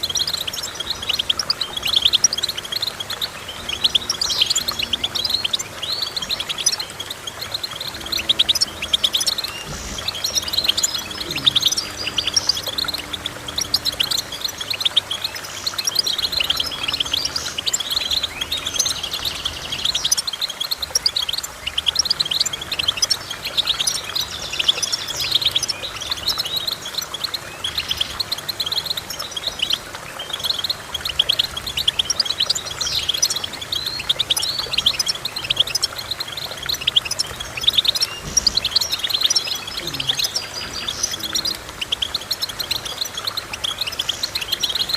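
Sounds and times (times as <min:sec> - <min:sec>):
finch twittering song: 0:00.0 - 0:44.9.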